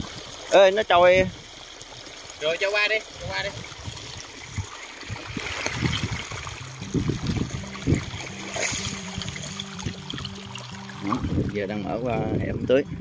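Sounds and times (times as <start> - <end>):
water gushing from a pipe: 0.0 - 13.0.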